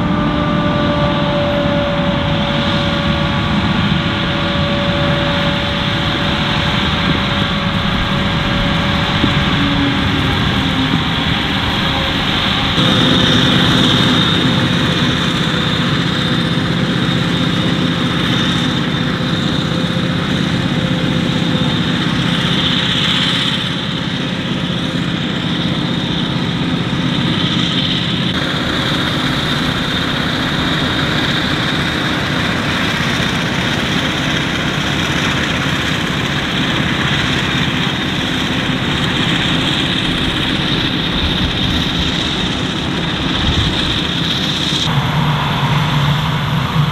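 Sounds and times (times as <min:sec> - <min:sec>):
diesel machinery engine hum: 0:00.0 - 0:46.9
high whine: 0:00.0 - 0:46.9.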